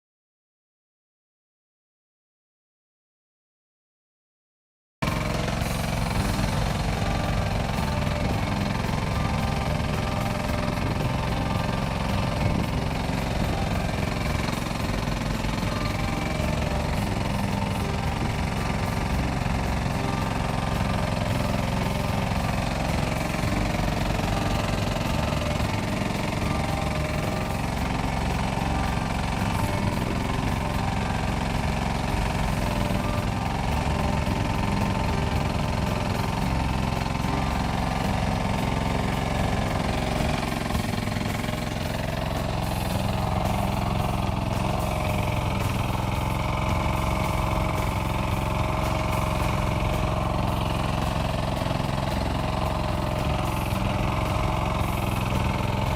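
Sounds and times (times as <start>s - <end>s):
excavator diesel engine running: 5.0s - 55.9s.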